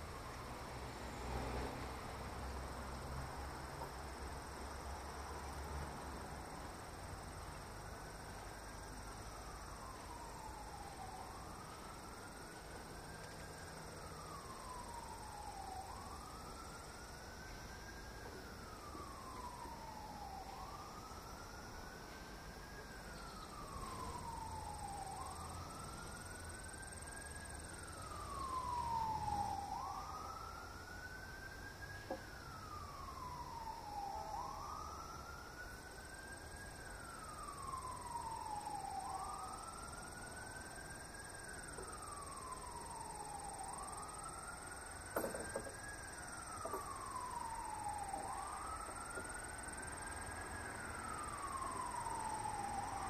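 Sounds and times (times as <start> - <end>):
siren wailing: 8.8 - 53.0.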